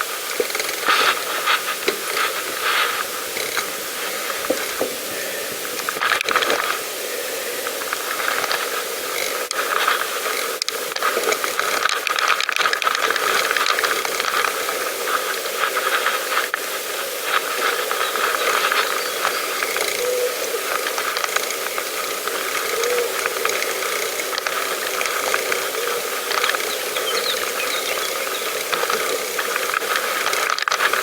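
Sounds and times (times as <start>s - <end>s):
bicycle tyre hiss: 0.0s - 31.0s
bicycle rattling and clicking: 0.1s - 6.8s, 7.8s - 16.6s, 20.7s - 31.0s.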